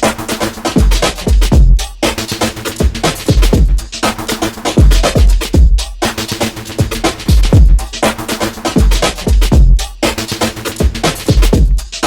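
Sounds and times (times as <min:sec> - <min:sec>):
kick drums: 0:00.0 - 0:12.0
quick hi-hats: 0:00.0 - 0:12.0.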